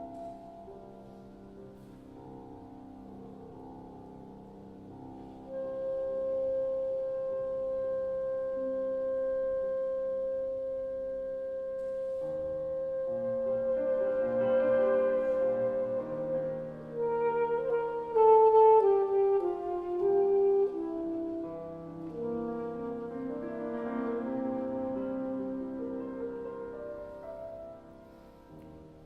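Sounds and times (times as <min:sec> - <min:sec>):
piano: 0:00.0 - 0:29.0
alto saxophone: 0:04.7 - 0:28.8.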